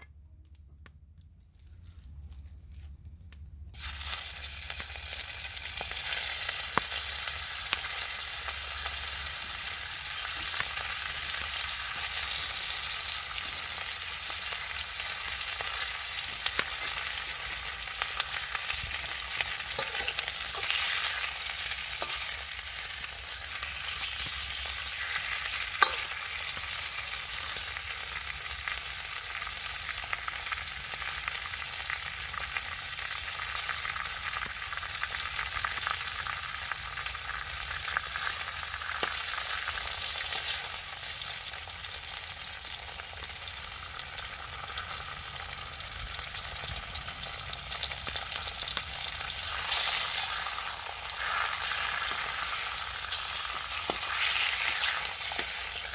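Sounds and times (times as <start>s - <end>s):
food sizzling in a wok: 3.7s - 55.9s.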